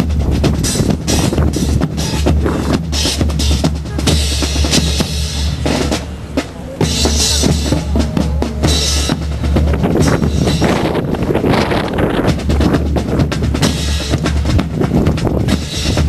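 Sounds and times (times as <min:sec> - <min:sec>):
constant low rumble: 0:00.0 - 0:16.0
snare and bass drums marching: 0:00.0 - 0:16.0.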